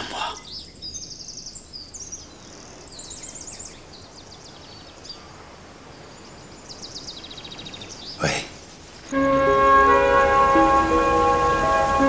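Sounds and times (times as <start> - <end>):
birds chirping in high trills: 0.0 - 12.0.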